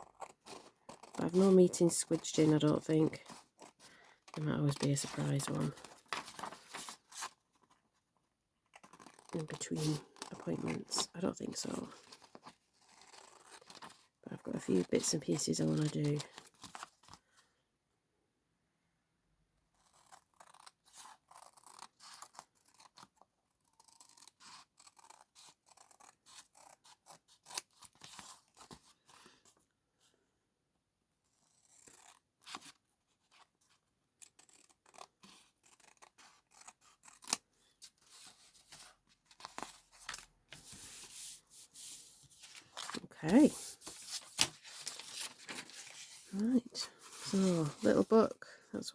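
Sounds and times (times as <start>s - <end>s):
scissors cutting paper: 0.0s - 7.3s, 8.7s - 16.9s, 19.8s - 28.8s, 31.4s - 32.8s, 34.2s - 48.0s.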